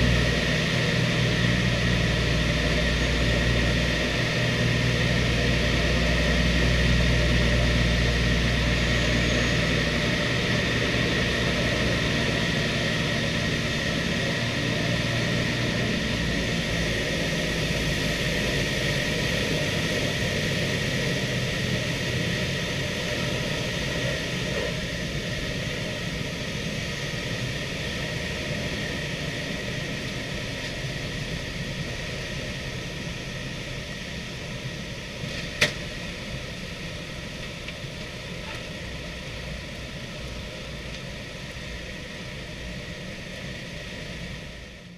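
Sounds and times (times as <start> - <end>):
aircraft engines droning: 0.0 - 44.9.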